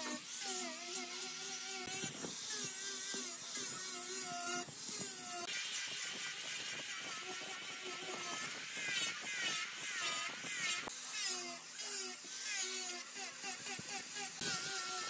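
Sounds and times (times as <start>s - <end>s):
electric power tool whining: 0.0s - 15.0s.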